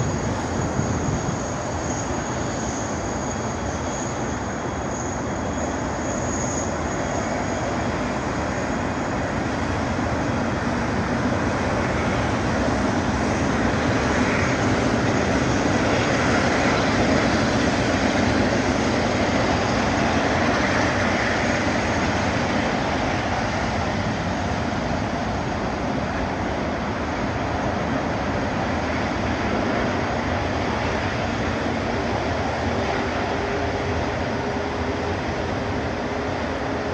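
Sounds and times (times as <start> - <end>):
jet engines running: 0.0 - 36.9.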